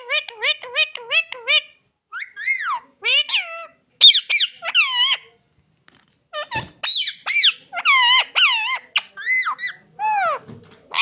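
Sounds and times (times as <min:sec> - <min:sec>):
parrot squeaky calls: 0:00.0 - 0:05.3, 0:06.3 - 0:11.0.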